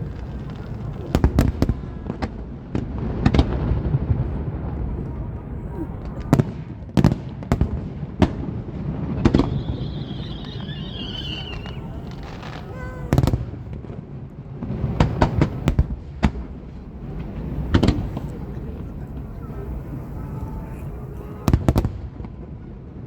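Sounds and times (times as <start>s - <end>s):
fireworks booming: 0.0s - 1.8s, 3.0s - 7.8s, 8.8s - 13.8s, 14.6s - 22.0s.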